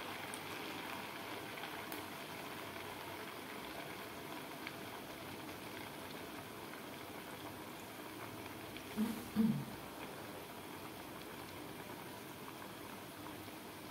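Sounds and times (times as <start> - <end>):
food deep-frying in bubbling oil: 0.0 - 13.9.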